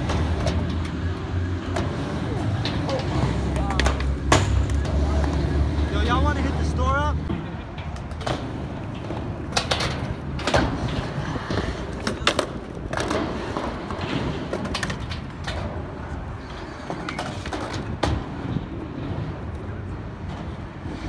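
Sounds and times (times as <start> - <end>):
skateboard trucks clacking on metal: 0.0 - 6.7, 7.3 - 21.0
skateboard wheels rumbling: 0.0 - 21.0.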